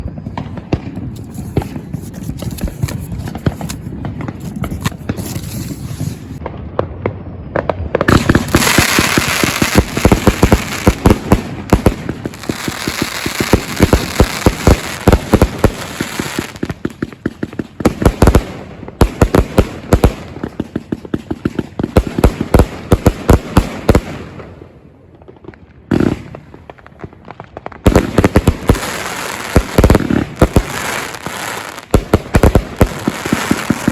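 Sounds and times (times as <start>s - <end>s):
fireworks launching and bursting: 0.0s - 33.9s.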